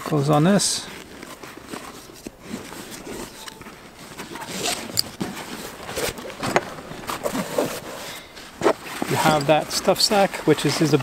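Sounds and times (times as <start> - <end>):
backpack fabric rustling: 0.0 - 11.0.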